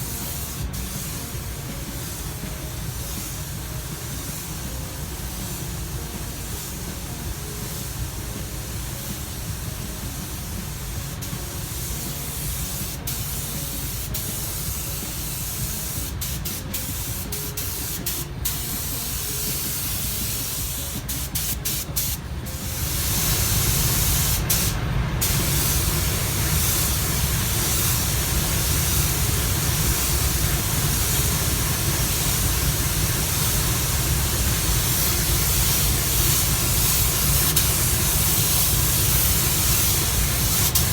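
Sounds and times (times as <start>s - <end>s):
paint spray gun hissing: 0.0s - 40.9s.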